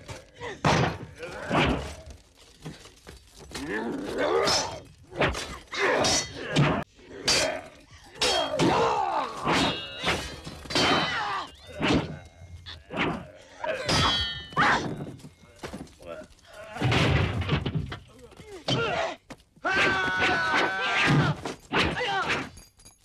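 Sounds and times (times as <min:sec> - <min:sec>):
grunts and shouts: 0:00.0 - 0:17.2, 0:18.1 - 0:22.5.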